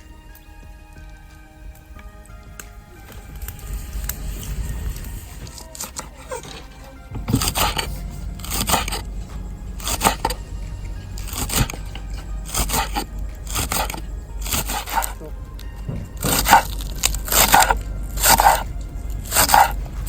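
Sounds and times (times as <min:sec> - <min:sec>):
low background hum: 0:00.0 - 0:20.0
water sizzling on hot stone: 0:00.0 - 0:20.0.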